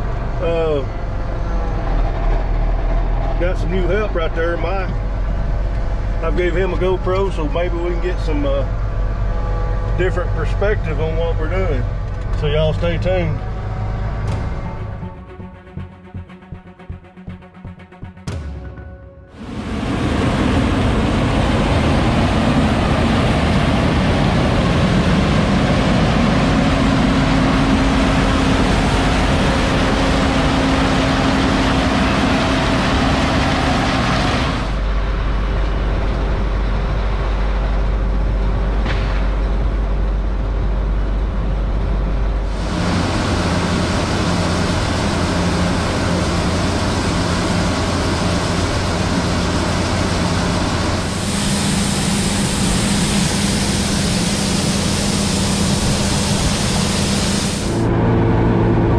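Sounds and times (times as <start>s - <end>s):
heavy machinery engines running: 0.0s - 58.9s.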